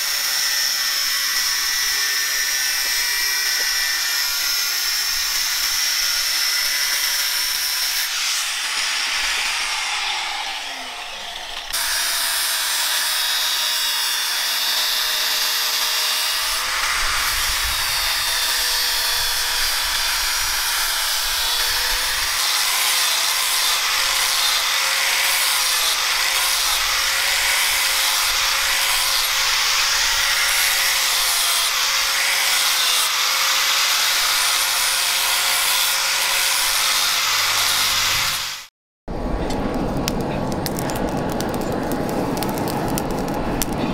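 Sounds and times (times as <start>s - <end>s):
angle grinder grinding steel: 0.0s - 38.7s.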